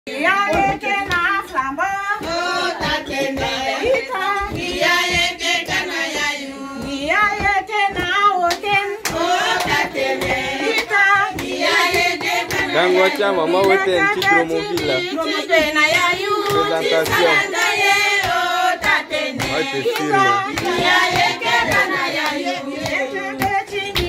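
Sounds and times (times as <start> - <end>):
women singing together: 0.1 - 24.0
hand claps: 0.3 - 24.0.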